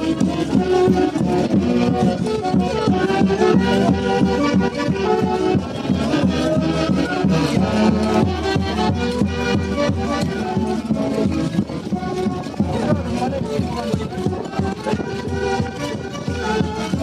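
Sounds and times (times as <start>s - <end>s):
saxophone-led orchestra melody: 0.0s - 17.0s.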